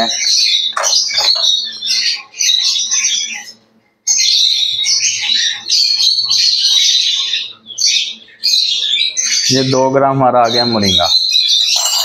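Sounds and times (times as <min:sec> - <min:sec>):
birds chattering and squawking: 0:00.0 - 0:12.0.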